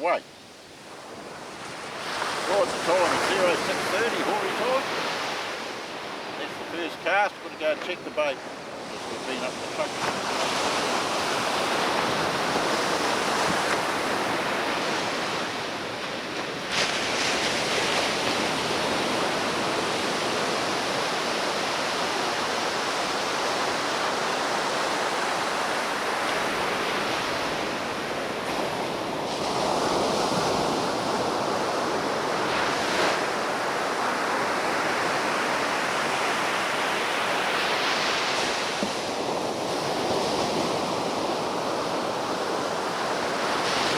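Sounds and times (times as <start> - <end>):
ocean surf washing onto beach: 0.0 - 43.9.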